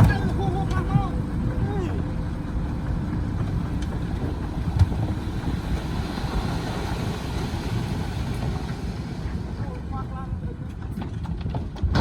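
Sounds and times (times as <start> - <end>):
heavy machinery engines rumbling: 0.0 - 12.0.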